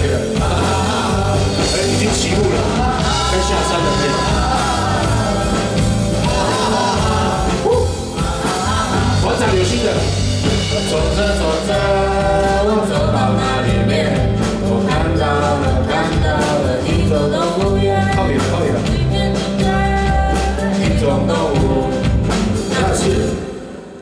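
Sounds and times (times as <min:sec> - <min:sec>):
bass line: 0:00.0 - 0:23.5
person singing: 0:00.0 - 0:23.6
drums: 0:00.0 - 0:24.0.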